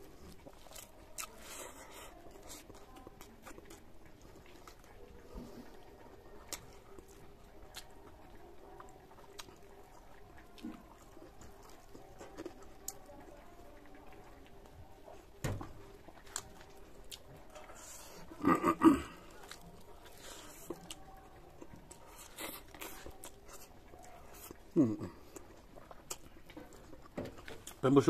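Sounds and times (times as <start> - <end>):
man chewing with wet smacks: 0.0 - 28.0.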